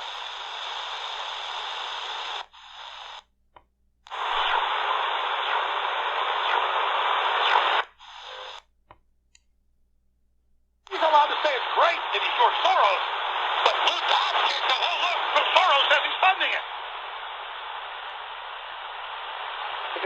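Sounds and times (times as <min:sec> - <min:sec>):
radio static hissing: 0:00.0 - 0:03.3, 0:04.1 - 0:08.7, 0:10.9 - 0:20.0.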